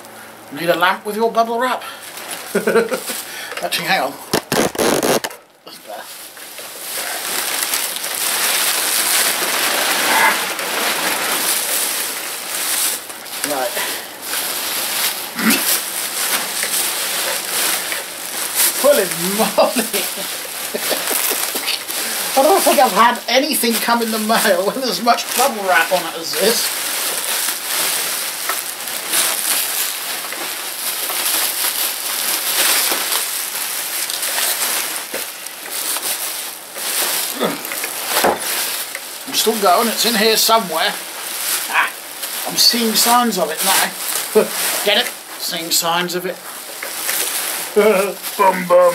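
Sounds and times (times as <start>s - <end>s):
bubble wrap crinkling: 0.3s - 48.9s.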